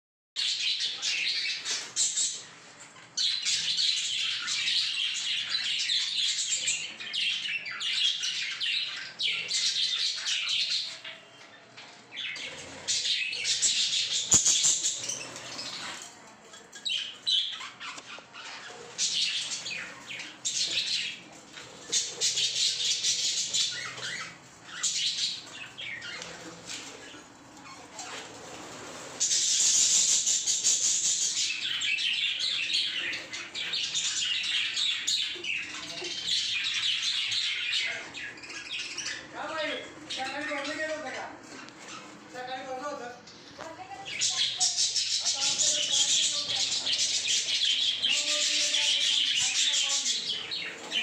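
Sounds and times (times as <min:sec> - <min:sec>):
budgerigars chattering and squawking: 0:00.4 - 0:11.2, 0:12.1 - 0:16.0, 0:16.8 - 0:51.0.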